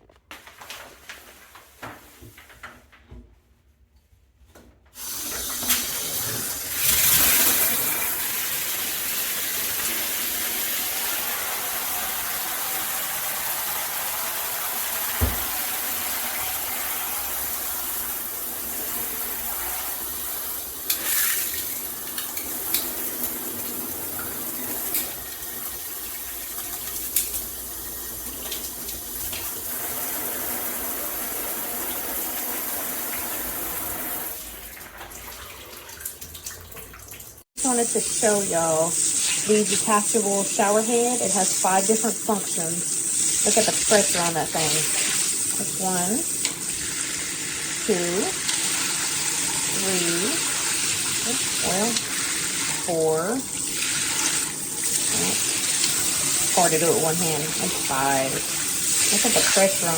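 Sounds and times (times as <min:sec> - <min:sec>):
water rushing from shower head: 0:05.0 - 0:35.8, 0:37.6 - 0:59.9.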